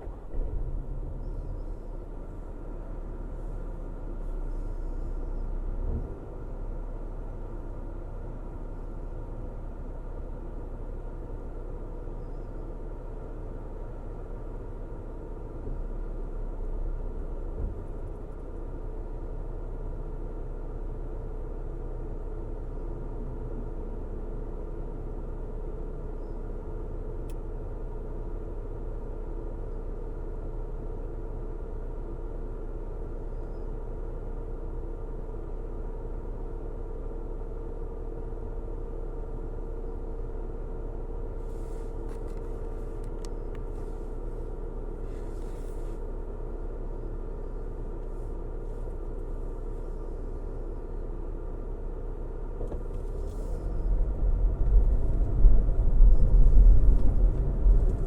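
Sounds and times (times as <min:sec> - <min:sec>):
car engine hum: 0:00.0 - 0:58.0
road rumble: 0:00.0 - 0:58.0.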